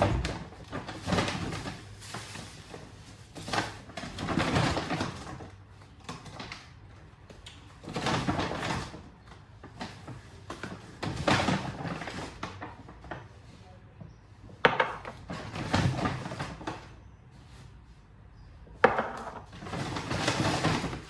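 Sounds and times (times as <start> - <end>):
groceries rustling: 0.0 - 21.0.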